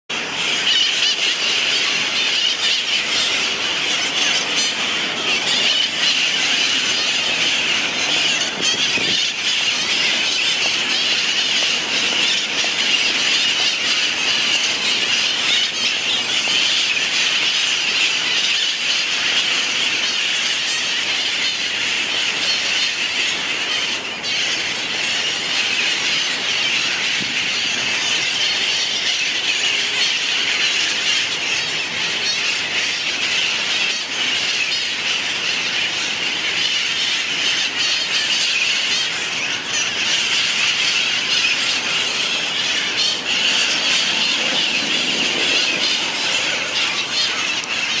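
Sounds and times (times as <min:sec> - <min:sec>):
parrots screeching: 0:00.1 - 0:48.0.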